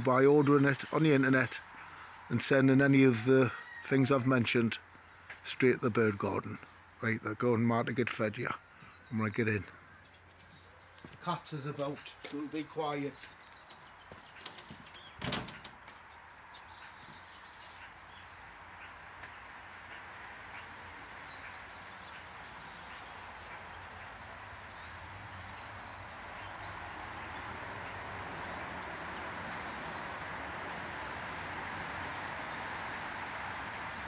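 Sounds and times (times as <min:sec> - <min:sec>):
small birds chirping: 0:00.0 - 0:02.9, 0:04.6 - 0:34.0.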